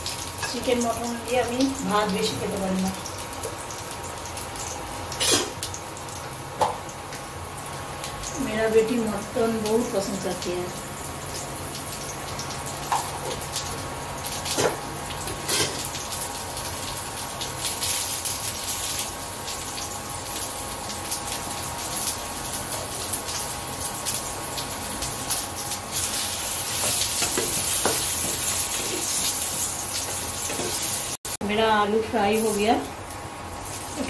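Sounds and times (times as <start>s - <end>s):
potatoes sizzling in oil: 0.0s - 34.0s.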